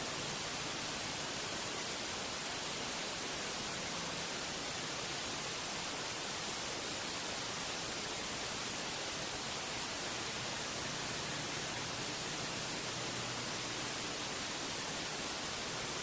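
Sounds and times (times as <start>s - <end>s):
steady static hiss: 0.0s - 16.0s.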